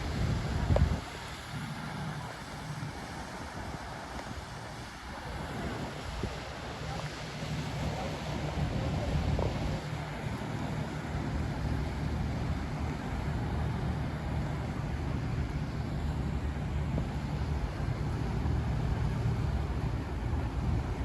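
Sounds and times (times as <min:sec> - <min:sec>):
low engine drone: 0:00.0 - 0:21.0
noisy wash: 0:00.0 - 0:21.0.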